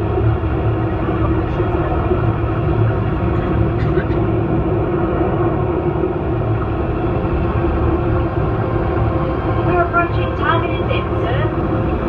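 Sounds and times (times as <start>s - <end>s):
submarine cabin rumble and hum: 0.0s - 12.0s.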